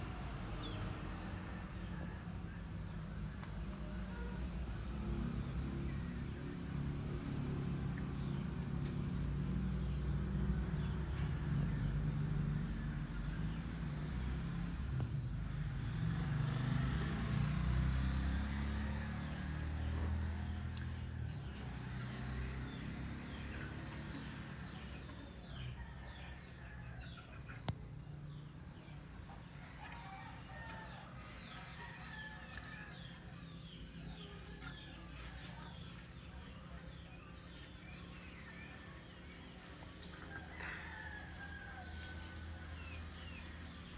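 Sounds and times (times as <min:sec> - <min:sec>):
high insect drone: 0:00.0 - 0:43.9.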